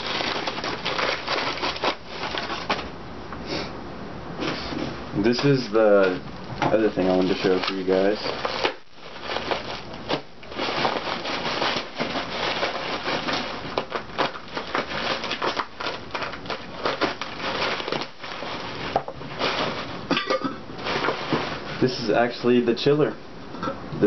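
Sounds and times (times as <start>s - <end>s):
packaging crinkling and crackling: 0.0s - 3.0s, 5.3s - 22.5s.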